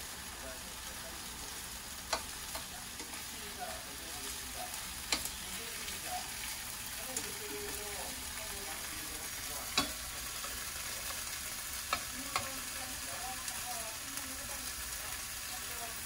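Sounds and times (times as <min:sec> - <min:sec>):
root strips sizzling in a frying pan: 0:00.0 - 0:16.0.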